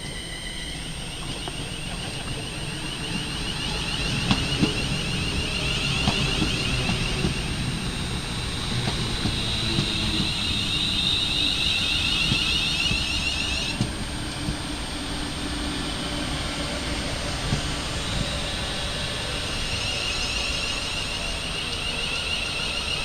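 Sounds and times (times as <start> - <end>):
high-pitched whine: 0.0 - 23.0
train rumble: 0.0 - 23.0.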